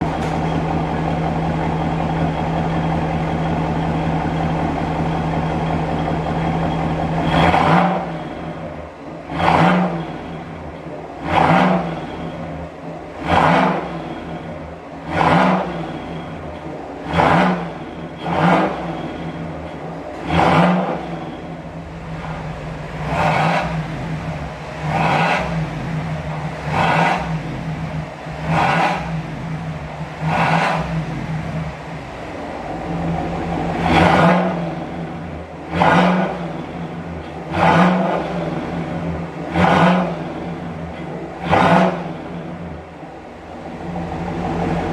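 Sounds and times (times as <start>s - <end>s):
engine idling and revving: 0.0s - 44.9s.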